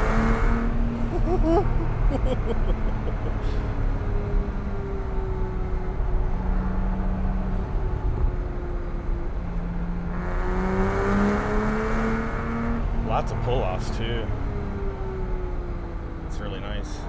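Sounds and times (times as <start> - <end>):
car engine accelerating: 0.0 - 17.0
road rumble: 0.0 - 17.0.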